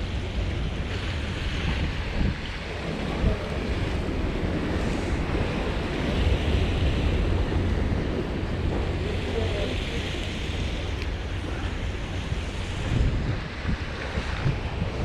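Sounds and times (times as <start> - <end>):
hiss of wind and sea: 0.0 - 15.0
wind buffeting microphone: 0.0 - 15.0.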